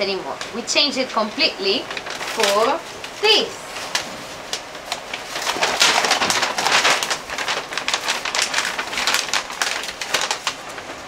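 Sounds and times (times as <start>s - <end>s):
paper rustling and crinkling: 1.5s - 11.0s.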